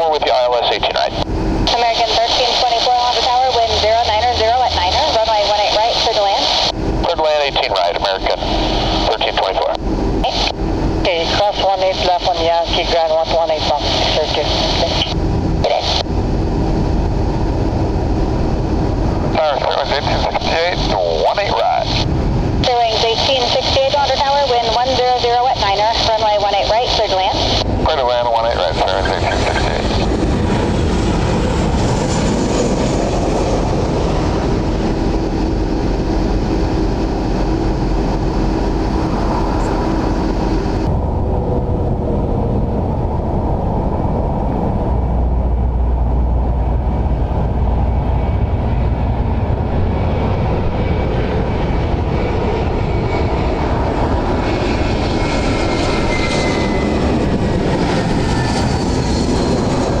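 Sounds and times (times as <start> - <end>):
high engine whine: 0.0 - 60.0
jet engines roaring: 0.0 - 60.0.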